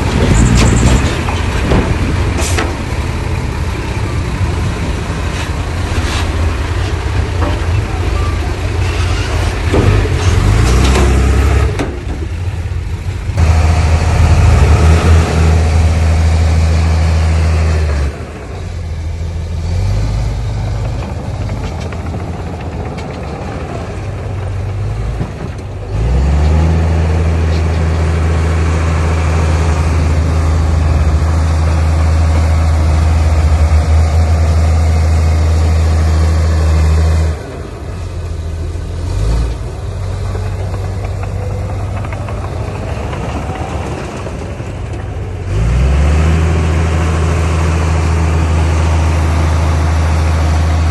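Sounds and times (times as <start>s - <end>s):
heavy diesel engine droning: 0.0s - 50.9s.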